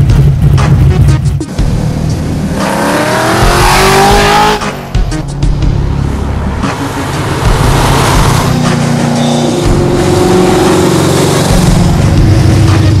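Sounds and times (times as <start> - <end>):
music: 0.0 - 13.0
car engine accelerating: 1.5 - 13.0.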